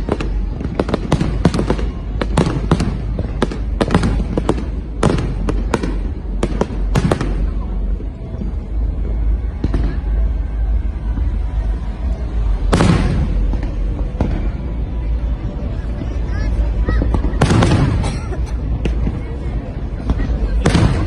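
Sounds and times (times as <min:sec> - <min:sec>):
fireworks bangs and crackles: 0:00.0 - 0:21.0
low rumble: 0:00.0 - 0:21.0.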